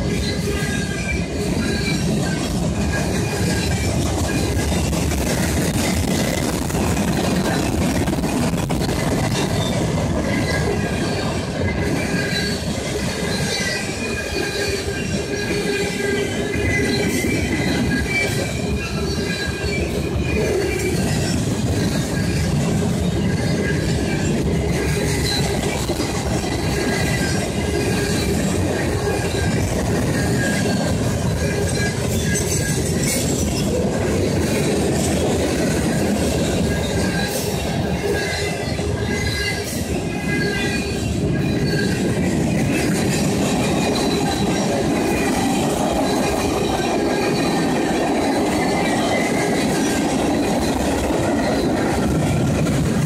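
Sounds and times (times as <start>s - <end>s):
high-pitched wheel squeal: 0.0s - 53.0s
train wheels rumbling on rails: 0.0s - 53.0s.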